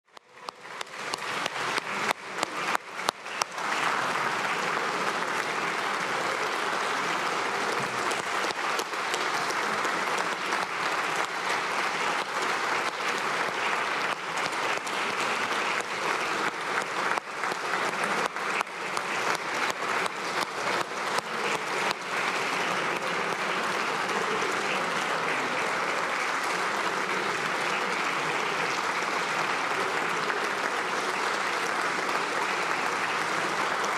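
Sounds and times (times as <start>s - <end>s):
crowd applauding: 0.1s - 33.9s.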